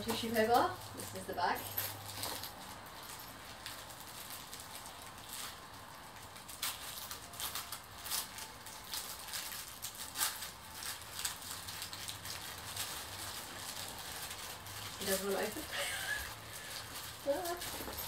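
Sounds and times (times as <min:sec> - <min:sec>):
tissue paper rustling and crinkling: 0:00.0 - 0:18.0.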